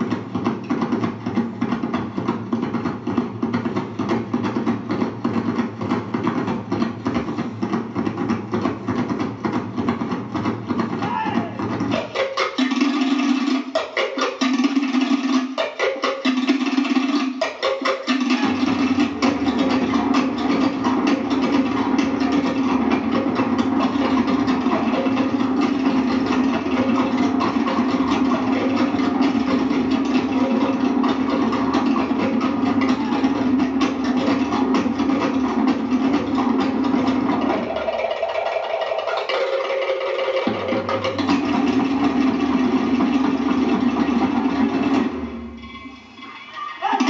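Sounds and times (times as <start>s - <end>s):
slit drums and skin drums: 0.0s - 47.0s.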